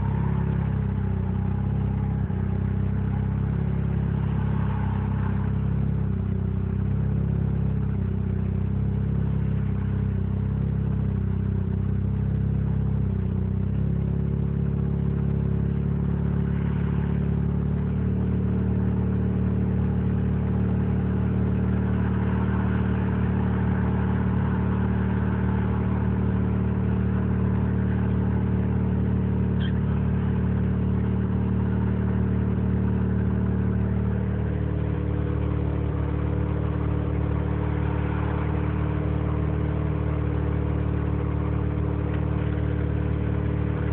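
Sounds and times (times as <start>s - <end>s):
rotary engine idling roughly: 0.0s - 43.9s.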